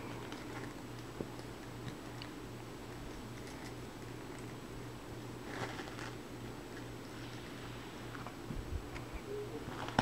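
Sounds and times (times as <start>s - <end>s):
bristles scratching and ticking: 0.0s - 8.4s
low steady hum: 0.0s - 10.0s.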